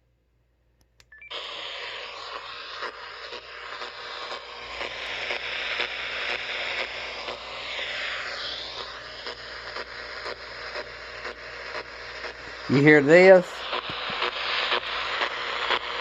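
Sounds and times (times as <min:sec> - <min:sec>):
regular interference clicks: 0:00.8 - 0:16.0
radio static hiss: 0:01.3 - 0:16.0.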